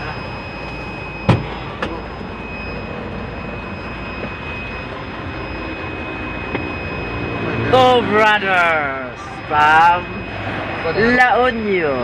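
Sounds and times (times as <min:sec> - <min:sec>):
thin high whine: 0:00.0 - 0:12.0
truck engine and road rumble: 0:00.0 - 0:12.0.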